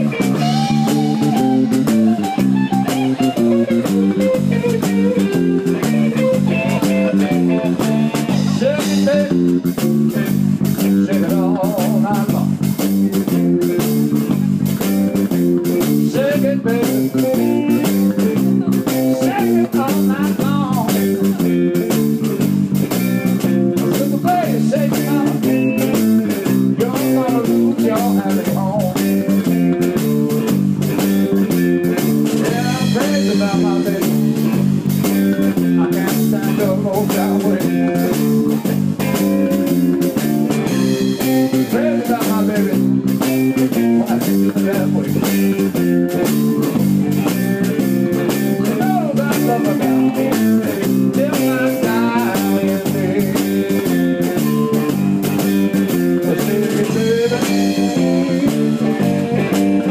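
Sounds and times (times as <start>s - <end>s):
bass guitar line: 0.0s - 59.9s
drum kit: 0.0s - 59.9s
electric guitar bending notes: 0.0s - 59.9s.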